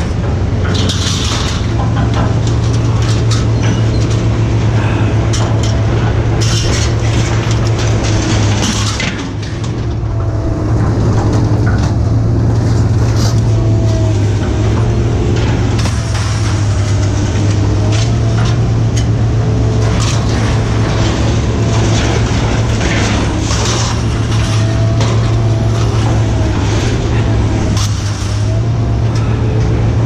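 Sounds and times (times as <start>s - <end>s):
rattles and knocks: 0.0s - 30.0s
vehicle engine droning: 0.0s - 30.0s.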